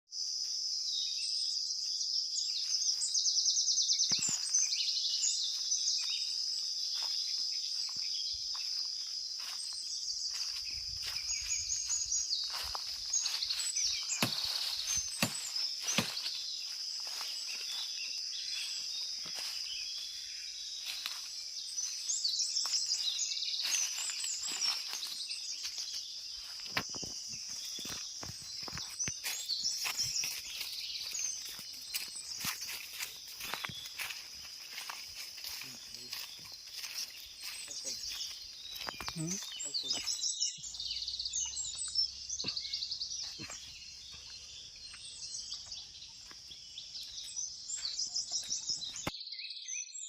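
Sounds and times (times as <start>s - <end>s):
birds chirping: 0.2s - 49.2s.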